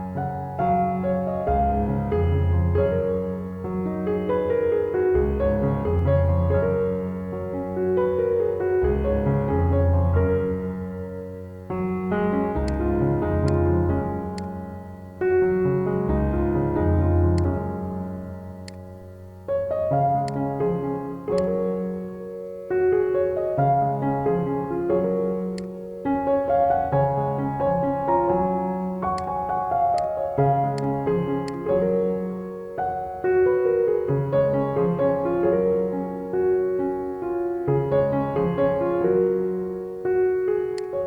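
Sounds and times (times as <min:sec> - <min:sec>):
keyboard chords and melody: 0:00.0 - 0:41.0.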